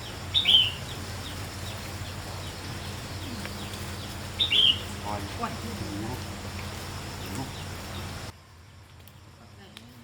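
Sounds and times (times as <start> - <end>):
bird chirping: 0.0 - 9.3.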